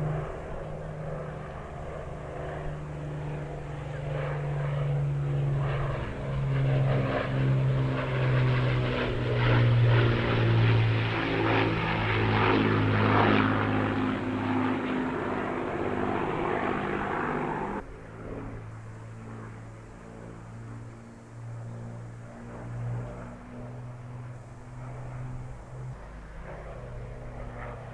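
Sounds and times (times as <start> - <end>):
propeller plane engines droning: 0.0 - 27.9.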